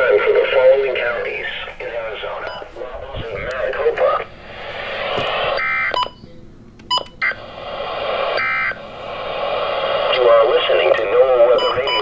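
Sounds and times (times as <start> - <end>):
static hiss: 0.0 - 5.7, 7.4 - 12.0.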